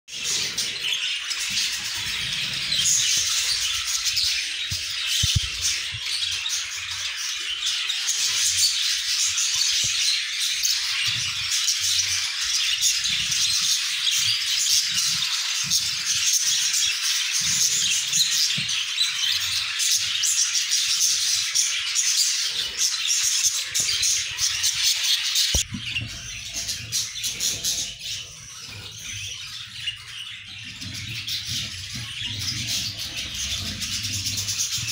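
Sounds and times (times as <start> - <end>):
budgerigars chirping: 0.1 - 34.9.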